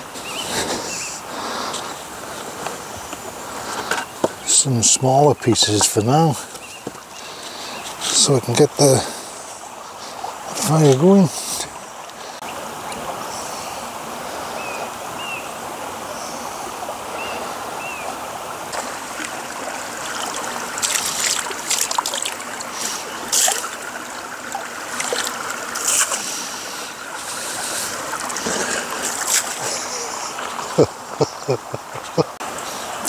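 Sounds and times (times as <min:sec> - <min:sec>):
stream running over stones: 0:00.0 - 0:33.0
water splashes: 0:00.0 - 0:33.0.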